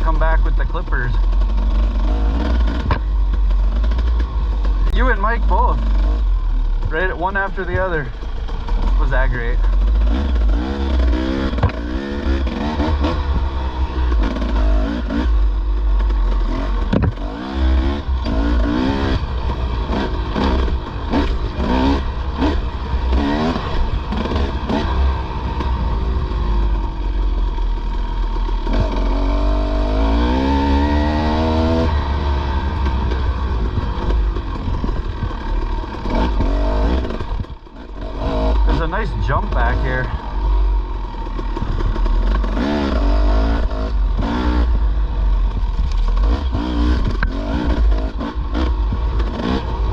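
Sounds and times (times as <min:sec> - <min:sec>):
dirt bike engine revving: 0:00.0 - 0:49.9
low rumble: 0:00.0 - 0:49.9.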